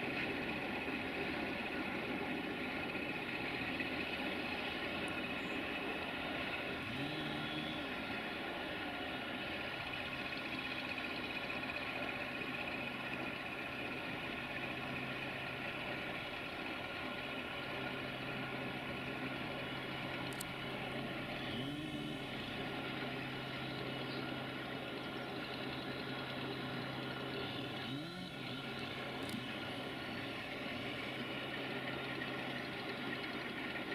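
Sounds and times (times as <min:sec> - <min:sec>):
diesel locomotive engine droning: 0:00.0 - 0:33.9.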